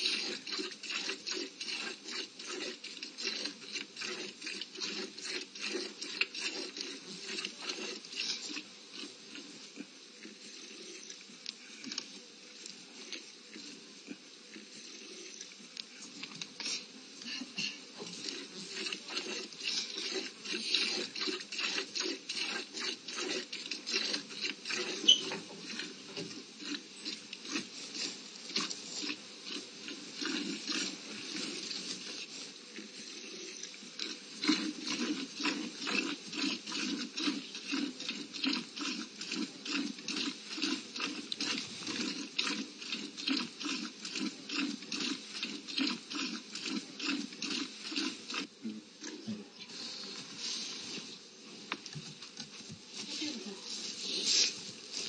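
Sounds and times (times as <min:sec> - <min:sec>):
cat chewing wetly: 0:00.0 - 0:49.2.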